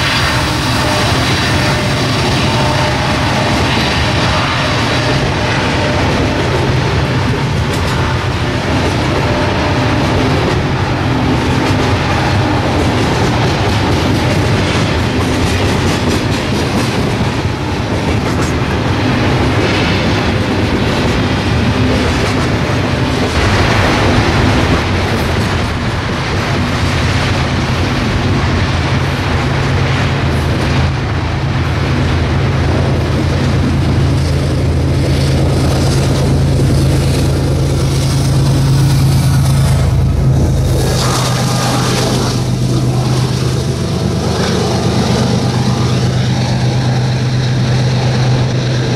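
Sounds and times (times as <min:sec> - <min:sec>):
train cars rumbling past: 0:00.0 - 0:48.9
wheels clicking over rail joints: 0:00.0 - 0:48.9.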